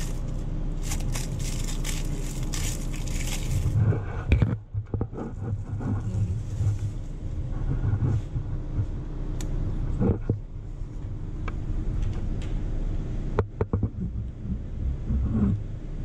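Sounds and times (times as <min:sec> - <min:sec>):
low uneven rumble: 0:00.0 - 0:16.0
printer electrical hum: 0:00.0 - 0:16.0.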